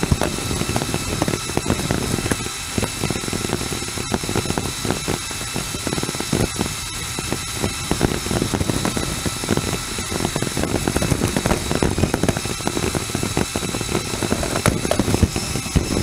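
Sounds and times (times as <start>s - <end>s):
faint motor whine: 0.0s - 16.0s
toy motors crackling and rattling: 0.0s - 16.0s.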